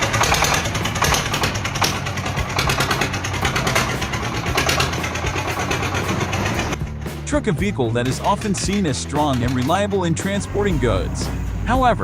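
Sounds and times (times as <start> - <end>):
vehicle engine rattling: 0.0 - 12.0.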